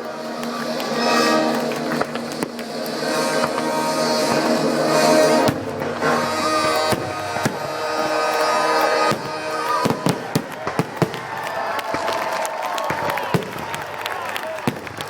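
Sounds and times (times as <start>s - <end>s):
fireworks bursting and banging: 0.0s - 15.0s
music playing: 0.0s - 15.0s.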